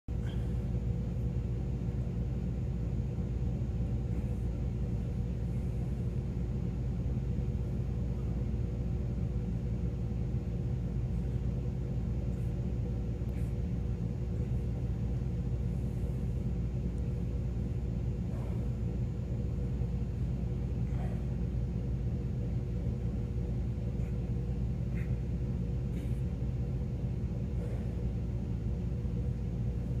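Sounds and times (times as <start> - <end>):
ventilation system rumble: 0.0 - 30.0.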